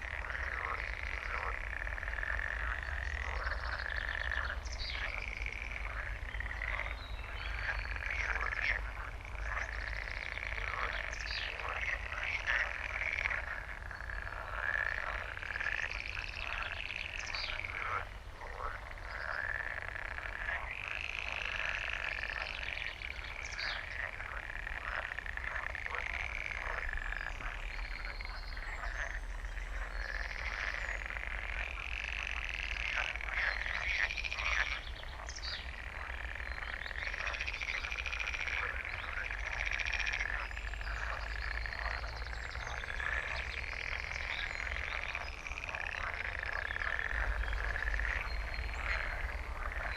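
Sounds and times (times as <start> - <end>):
frogs croaking: 0.0 - 49.9.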